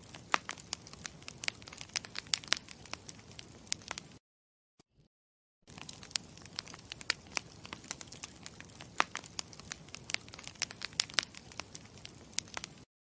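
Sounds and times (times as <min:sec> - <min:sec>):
campfire crackling: 0:00.0 - 0:04.2, 0:05.7 - 0:12.9
sharp pops and snaps: 0:00.0 - 0:04.2, 0:05.7 - 0:12.9.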